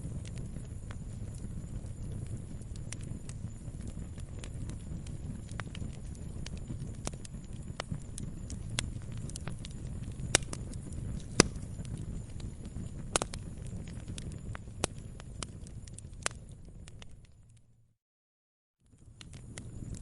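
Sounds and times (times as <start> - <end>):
wood fire crackling and popping: 0.0 - 17.6, 18.9 - 20.0
low steady rumble: 0.0 - 17.9.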